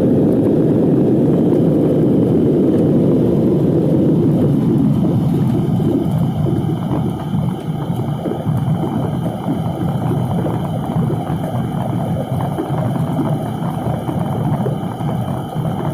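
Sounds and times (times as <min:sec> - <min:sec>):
jet cabin engine rumble: 0:00.0 - 0:15.9.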